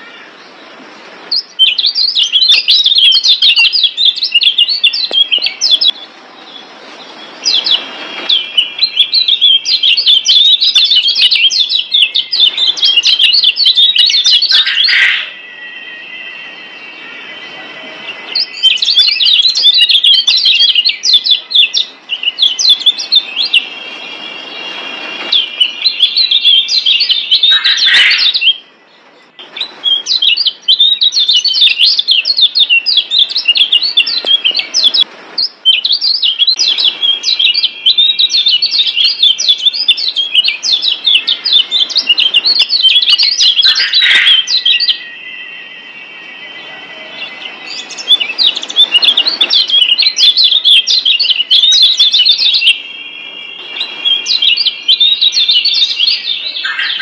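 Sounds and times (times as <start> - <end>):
bird high-pitched twittering song: 0.0 - 57.0.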